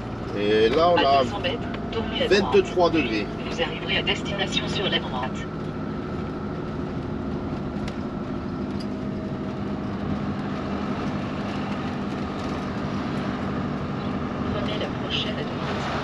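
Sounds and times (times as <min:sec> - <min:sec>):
engine humming: 0:00.0 - 0:16.0
road noise: 0:00.0 - 0:16.0.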